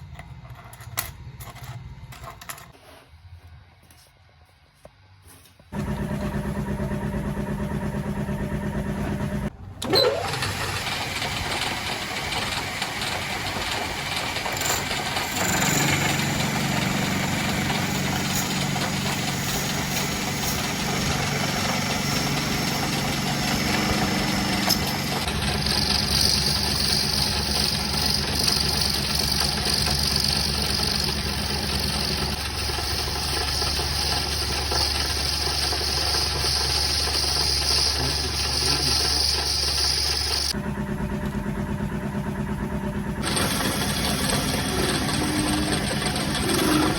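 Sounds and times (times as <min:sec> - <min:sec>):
power tool motor running: 0:05.7 - 0:40.6, 0:43.2 - 0:46.9.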